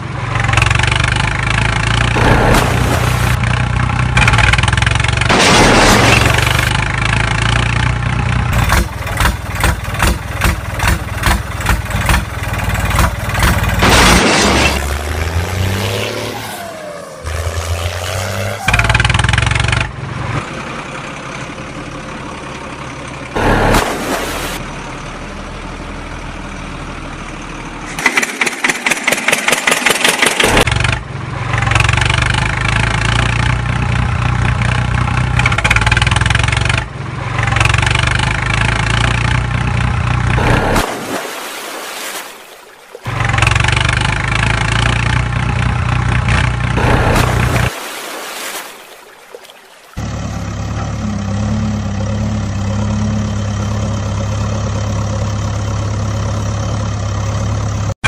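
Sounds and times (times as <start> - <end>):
vehicle engine running: 0.0 - 41.0, 42.9 - 47.7, 50.0 - 58.0.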